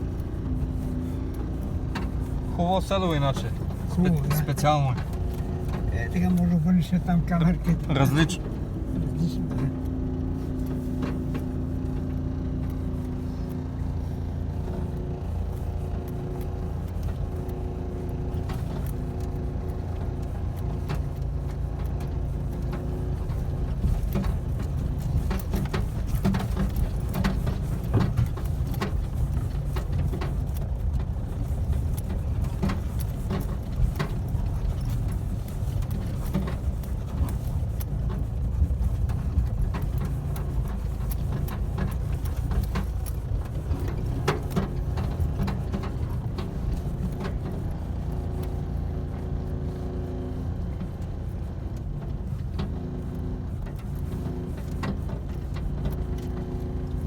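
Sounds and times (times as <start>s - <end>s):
car engine hum: 0.0s - 57.0s.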